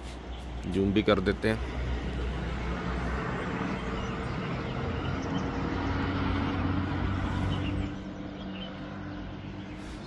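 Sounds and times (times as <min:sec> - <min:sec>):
distant road traffic: 0:00.0 - 0:10.0.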